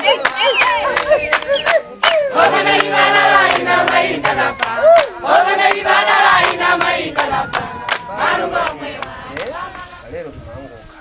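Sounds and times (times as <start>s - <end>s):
hands clapping: 0.0s - 9.8s
call-and-response group singing: 0.0s - 10.4s.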